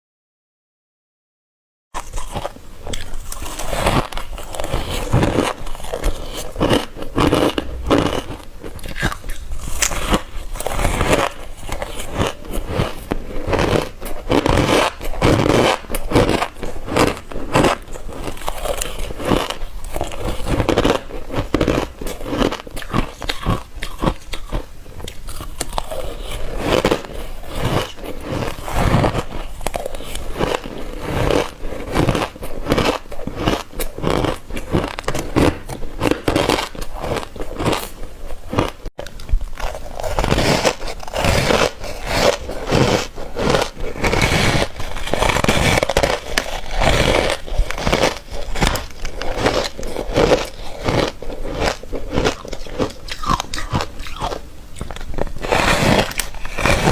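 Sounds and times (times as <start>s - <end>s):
ice being bitten and crunched: 2.0s - 56.9s.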